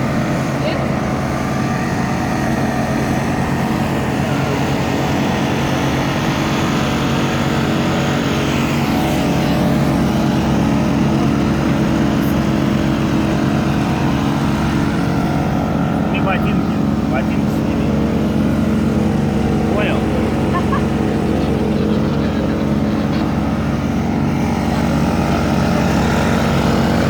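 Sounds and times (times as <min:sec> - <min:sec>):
engine droning: 0:00.0 - 0:27.0.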